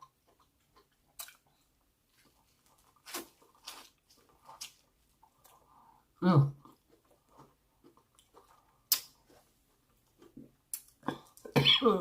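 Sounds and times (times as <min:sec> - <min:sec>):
person chewing food: 0:00.0 - 0:11.6.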